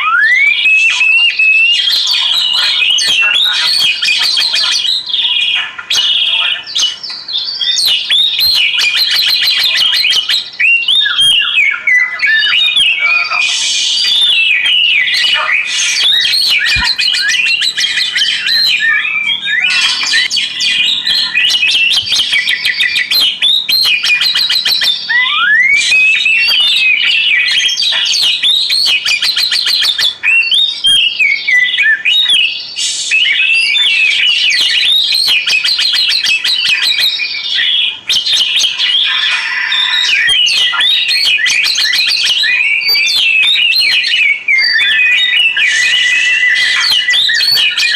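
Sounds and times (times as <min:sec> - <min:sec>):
songbird singing varied song: 0:00.0 - 0:47.9.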